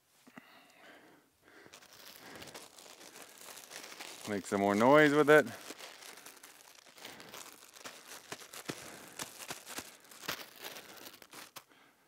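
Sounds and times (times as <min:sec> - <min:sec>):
balloon crinkling and crackling: 0:00.9 - 0:11.9.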